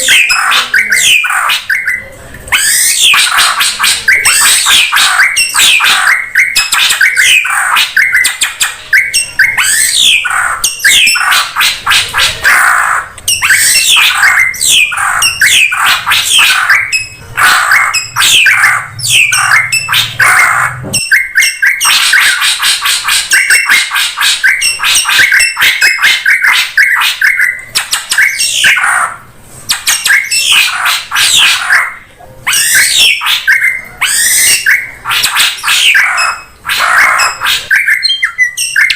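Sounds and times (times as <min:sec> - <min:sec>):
bird squawking and chattering: 0:00.0 - 0:38.9.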